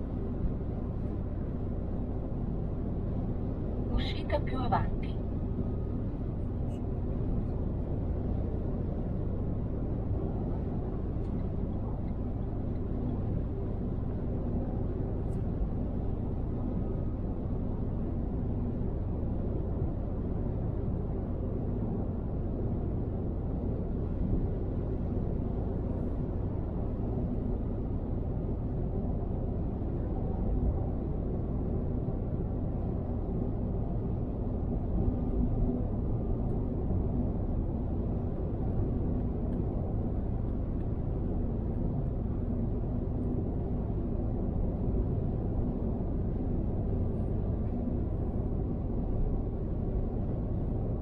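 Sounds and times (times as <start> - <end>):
road and tyre noise: 0.0 - 51.0.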